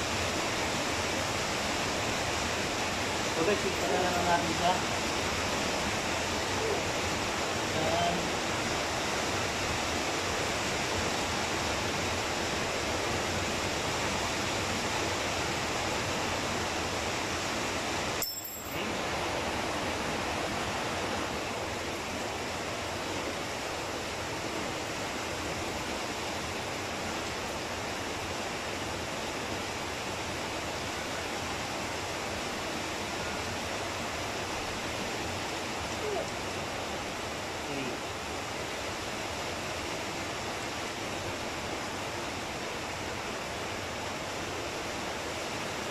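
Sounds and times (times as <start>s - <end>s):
steady rushing hiss: 0.0s - 45.9s.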